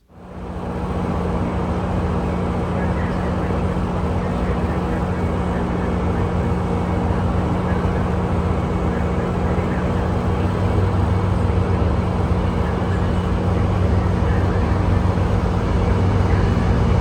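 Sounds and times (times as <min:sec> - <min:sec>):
locomotive diesel engines droning: 0:00.1 - 0:17.0.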